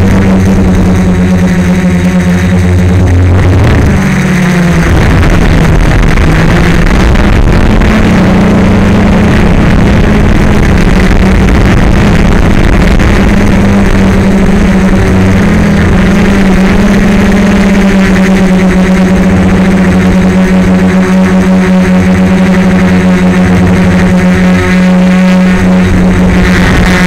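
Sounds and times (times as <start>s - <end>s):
drone propellers buzzing: 0.0s - 27.0s.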